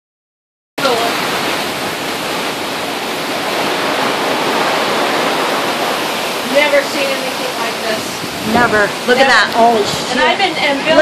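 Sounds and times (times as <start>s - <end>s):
heavy rain: 0.8s - 11.0s
running water: 0.8s - 11.0s.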